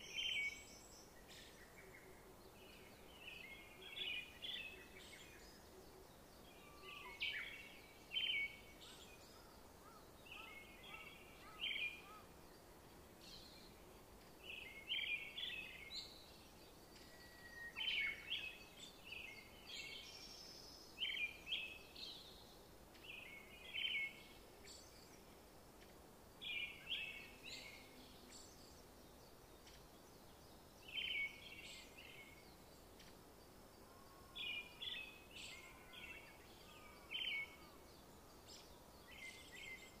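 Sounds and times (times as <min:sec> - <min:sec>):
faint steady hiss: 0:00.0 - 0:40.0
songbird chirping: 0:00.0 - 0:40.0.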